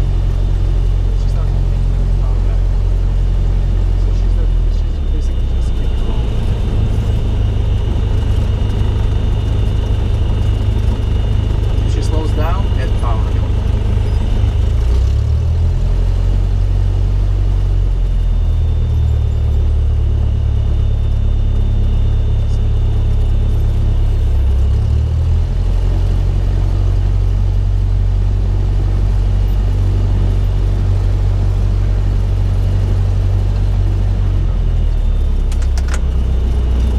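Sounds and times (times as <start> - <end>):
aircraft engine droning: 0.0 - 36.9.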